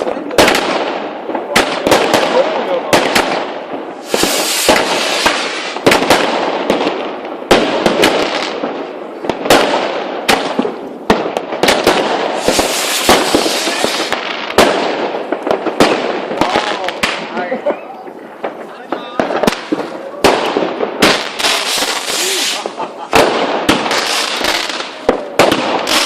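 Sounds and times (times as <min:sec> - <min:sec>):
firecrackers crackling: 0:00.0 - 0:26.0
fireworks bangs: 0:00.0 - 0:26.0.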